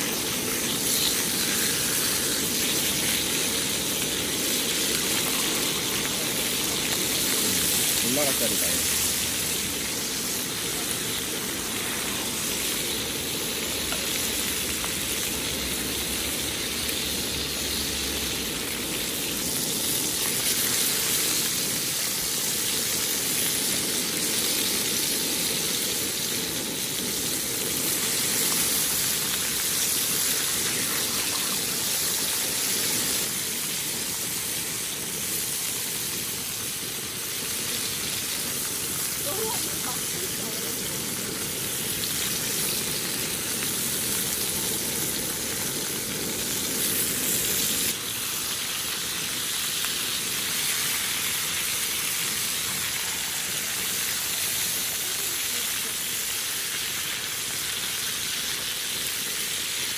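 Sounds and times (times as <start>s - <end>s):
steaks sizzling in a frying pan: 0.0s - 59.9s.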